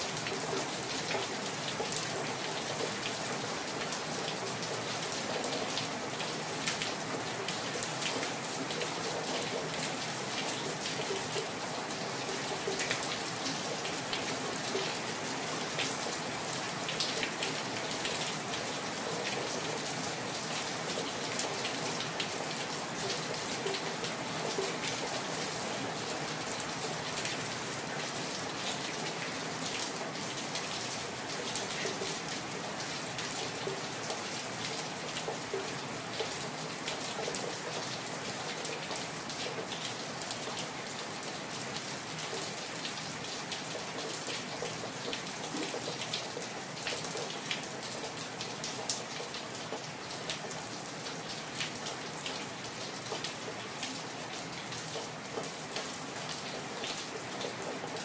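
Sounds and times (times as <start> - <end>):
raindrops ticking close by: 0.0 - 58.0
steady rain falling: 0.0 - 58.0.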